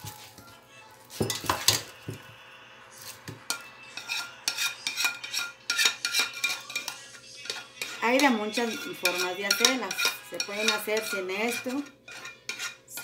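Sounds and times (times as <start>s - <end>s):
metal spoon scraping a pan: 1.2s - 2.0s, 3.0s - 13.0s.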